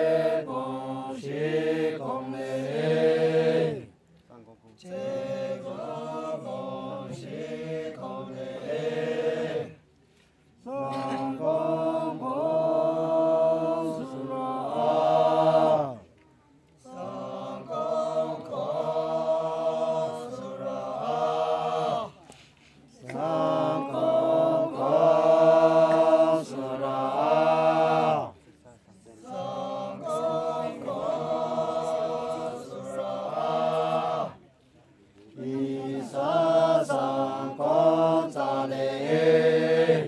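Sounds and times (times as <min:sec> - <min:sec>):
men's choir singing: 0:00.0 - 0:03.9, 0:04.9 - 0:09.8, 0:10.7 - 0:16.0, 0:16.9 - 0:22.2, 0:23.1 - 0:28.3, 0:29.3 - 0:34.4, 0:35.4 - 0:40.0.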